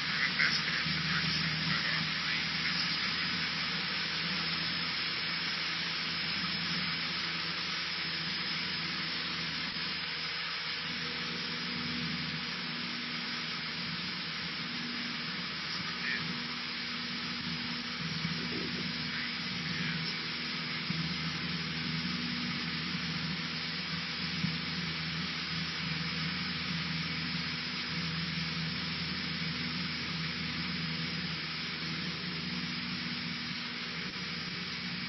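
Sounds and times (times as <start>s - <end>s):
aircraft engine and propeller: 0.0s - 35.0s
airflow hiss: 0.0s - 35.0s.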